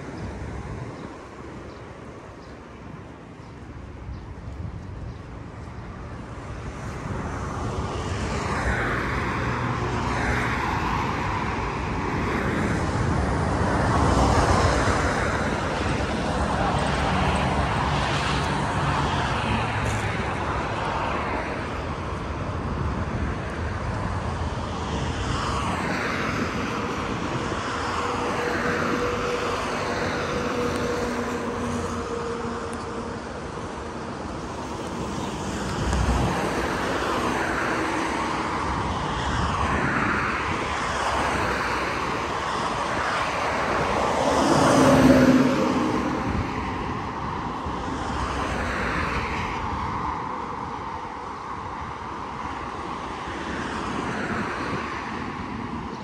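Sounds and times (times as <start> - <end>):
traffic rumble: 0.0 - 56.0
vehicles whooshing past: 0.0 - 56.0.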